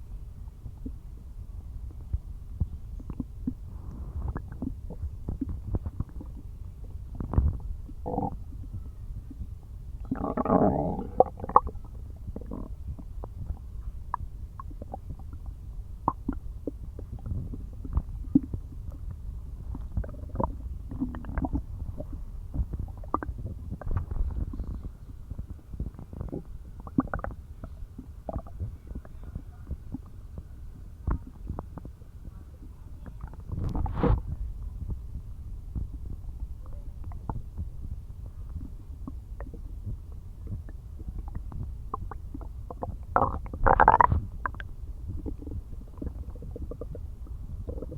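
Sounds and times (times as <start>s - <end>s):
stomach growling: 1.9s - 47.9s.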